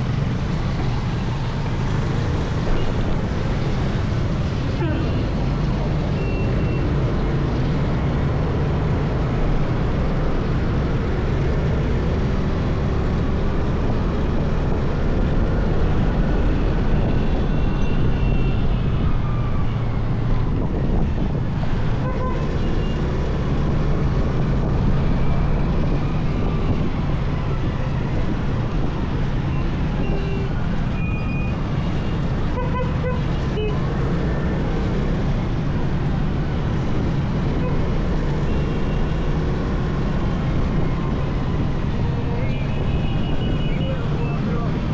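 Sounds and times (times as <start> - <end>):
city traffic: 0.0 - 44.9
wind and road noise: 0.0 - 44.9.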